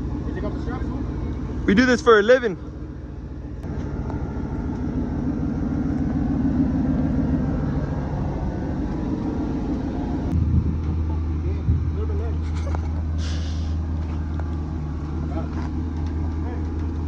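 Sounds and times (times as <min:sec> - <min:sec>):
deep steady hum: 0:00.0 - 0:17.0
truck engine rumbling: 0:00.0 - 0:17.0.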